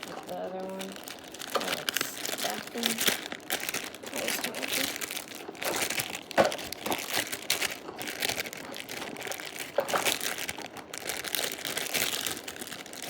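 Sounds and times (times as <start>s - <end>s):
slime squished by hand crackling: 0.0s - 13.0s.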